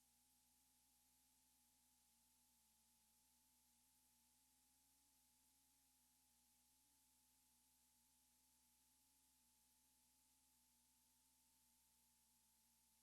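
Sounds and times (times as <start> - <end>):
faint steady hum and hiss: 0.0 - 13.0.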